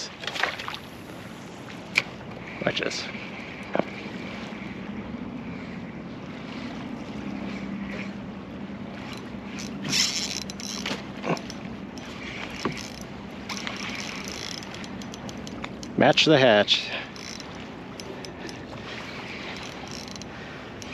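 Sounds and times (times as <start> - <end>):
choppy water: 0.0 - 20.9
wind: 0.0 - 20.9.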